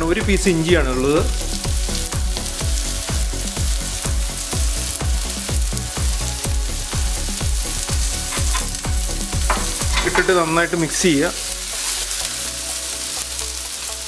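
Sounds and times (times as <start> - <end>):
background music with beat: 0.0 - 14.0
ghee sizzling in frying pan: 0.0 - 14.0.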